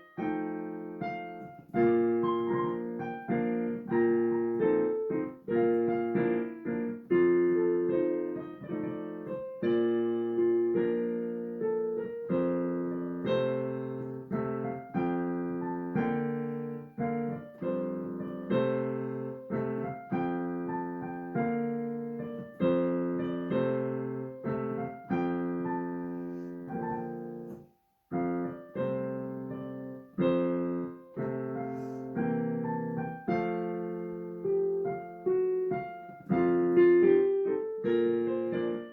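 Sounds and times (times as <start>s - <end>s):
solo piano playing: 0.0s - 38.9s.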